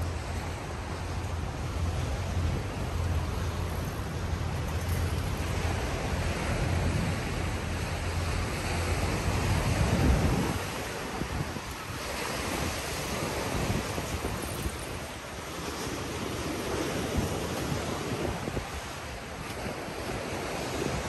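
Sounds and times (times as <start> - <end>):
surf: 0.0 - 21.0
wind buffeting microphone: 0.0 - 21.0.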